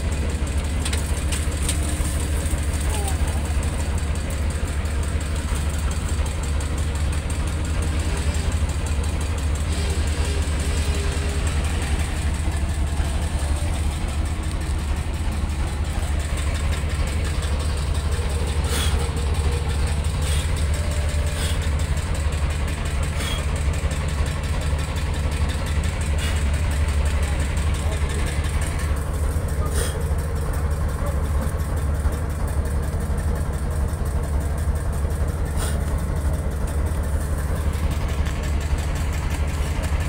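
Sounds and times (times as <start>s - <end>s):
boat engine idling: 0.0s - 40.0s.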